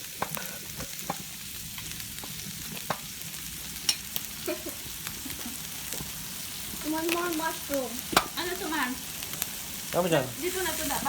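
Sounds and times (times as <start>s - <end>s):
food sizzling on a grill: 0.0s - 11.0s.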